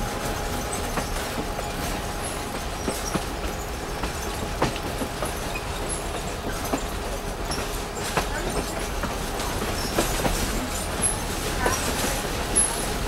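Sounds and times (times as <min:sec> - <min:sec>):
train rumble and hiss: 0:00.0 - 0:13.0
wheels clicking on rails: 0:00.0 - 0:13.0.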